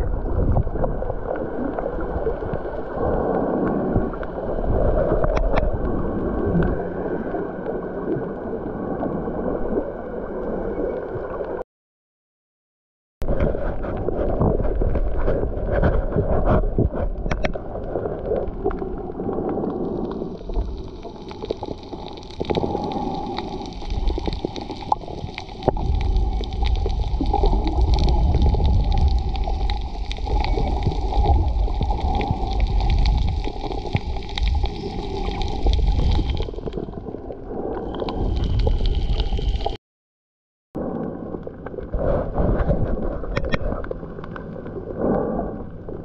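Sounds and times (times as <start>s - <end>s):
small underwater clicks and crackles: 0.0s - 11.6s, 13.2s - 39.8s, 40.8s - 46.0s
underwater gurgling rush: 0.0s - 11.6s, 13.2s - 39.8s, 40.8s - 46.0s.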